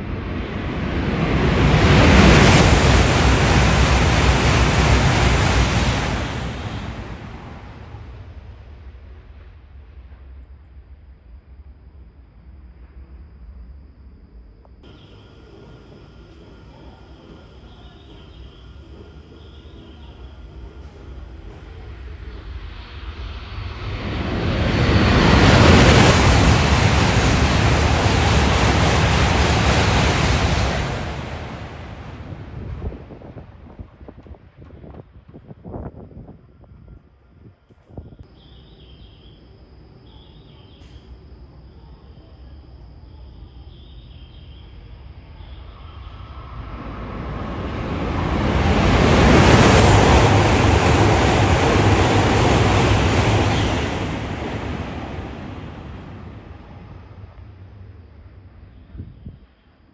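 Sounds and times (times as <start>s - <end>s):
train passing at speed: 0.0s - 59.9s.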